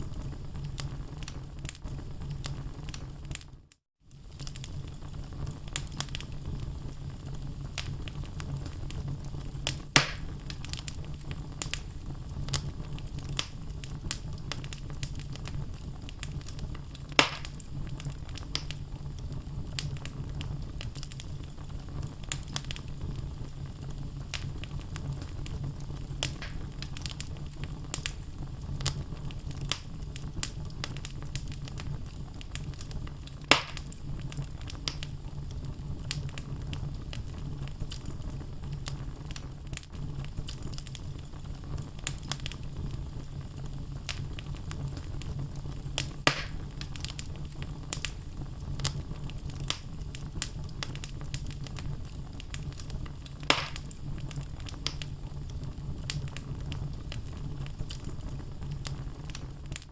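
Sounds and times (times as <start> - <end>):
fire crackling: 0.0 - 59.9
fire flames rumbling: 0.0 - 59.9
loud fire pops: 0.0 - 59.9.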